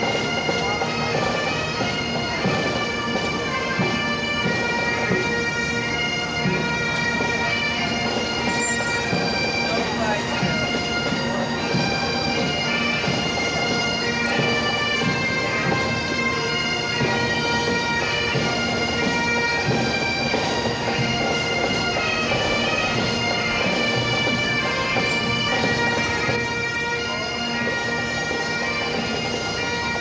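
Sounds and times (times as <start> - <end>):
bagpipe drones: 0.0 - 30.0
bagpipes playing a tune: 0.0 - 30.0.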